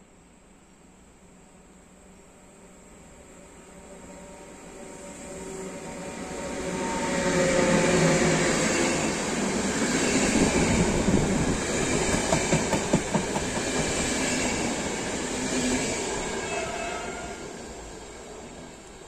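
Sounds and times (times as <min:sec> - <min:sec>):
train passing on track: 0:01.0 - 0:19.0.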